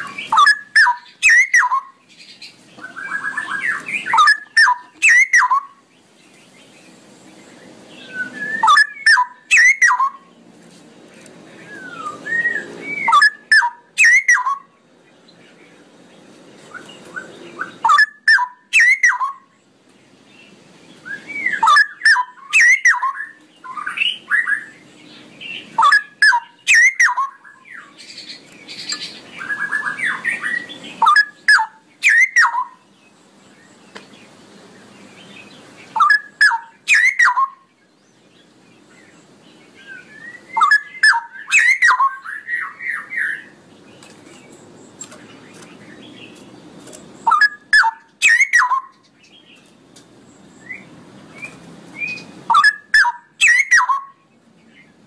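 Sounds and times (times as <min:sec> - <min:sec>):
bird singing bubbling song: 0:00.0 - 0:10.4, 0:11.5 - 0:19.7, 0:20.4 - 0:46.6, 0:47.2 - 0:49.7, 0:50.3 - 0:55.0.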